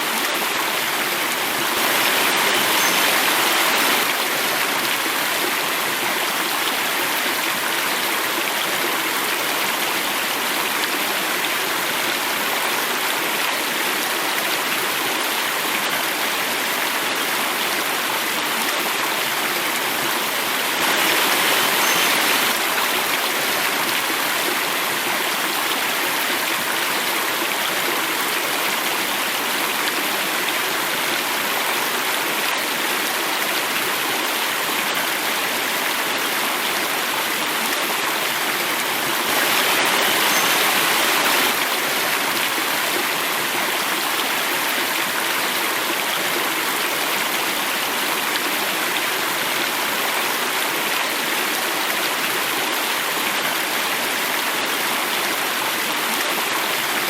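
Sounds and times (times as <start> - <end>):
water cascading: 0.0 - 57.0.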